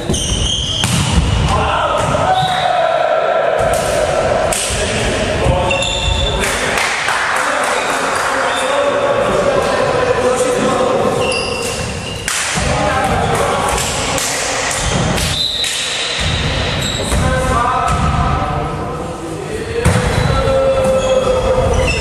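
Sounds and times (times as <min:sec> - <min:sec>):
players calling out: 0:00.0 - 0:18.1.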